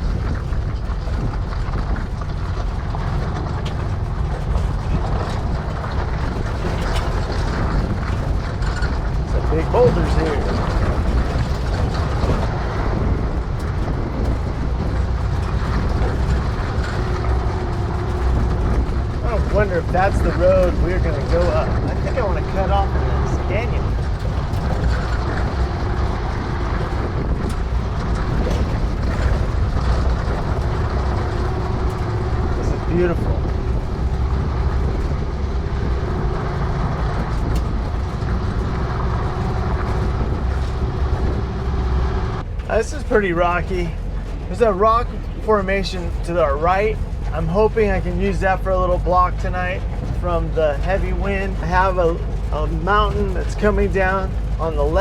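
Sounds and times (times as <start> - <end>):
light knocks and rattles: 0.0 - 55.0
van engine running at low speed: 0.0 - 55.0.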